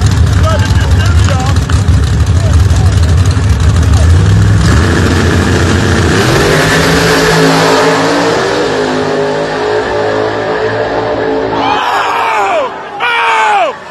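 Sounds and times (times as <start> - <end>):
drag racing cars accelerating: 0.0 - 12.8.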